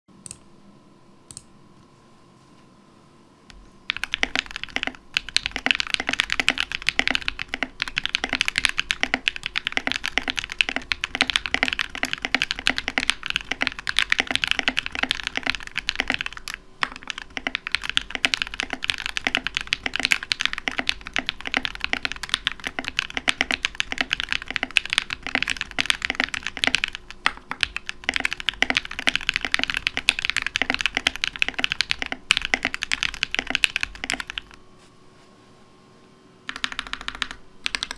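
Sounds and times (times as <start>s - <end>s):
fast mechanical keyboard typing: 3.9s - 34.6s, 36.5s - 37.9s.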